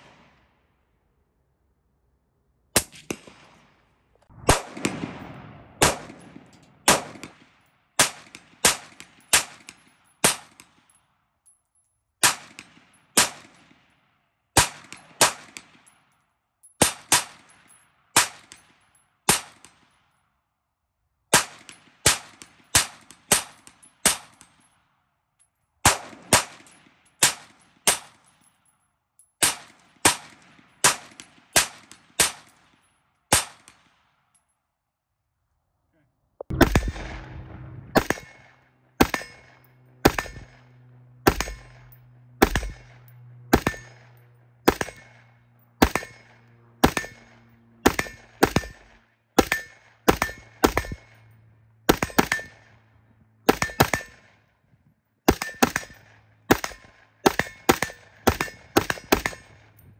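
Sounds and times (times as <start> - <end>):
rifle shots with ringing echo: 2.8 - 11.2, 12.2 - 16.1, 16.8 - 20.1, 21.3 - 24.7, 25.8 - 28.5, 29.4 - 34.2, 36.5 - 59.9.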